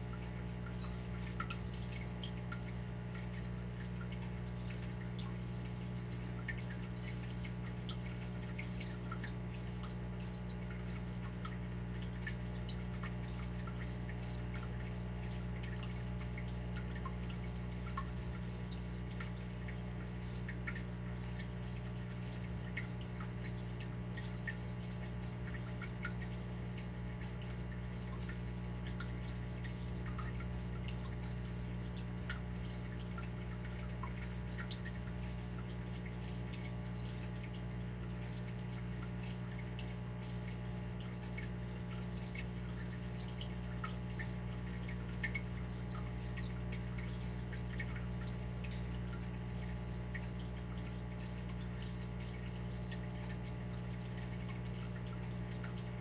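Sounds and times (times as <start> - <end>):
water dripping: 0.0 - 56.0.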